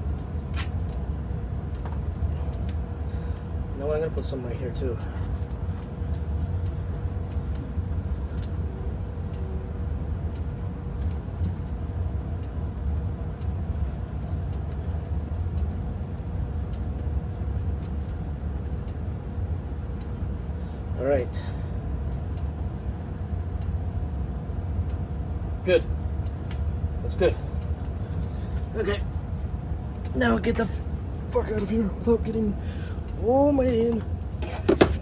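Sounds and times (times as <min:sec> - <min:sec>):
furnace rumbling and humming: 0:00.0 - 0:35.0.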